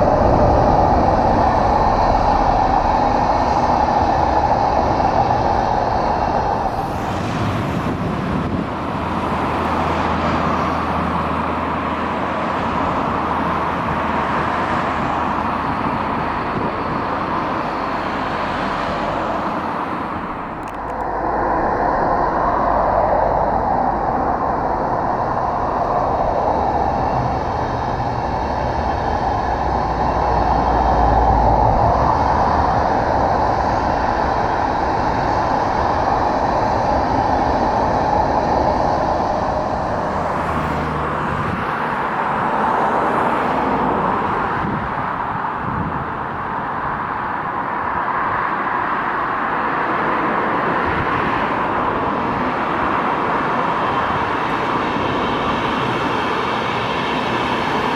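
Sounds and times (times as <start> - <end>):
train running past: 0.0 - 57.9.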